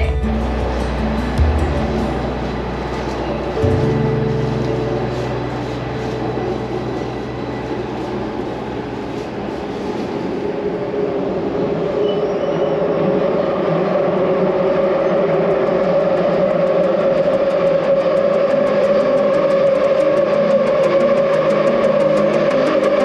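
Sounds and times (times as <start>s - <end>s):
train rumbling through tunnel: 0.0s - 23.0s.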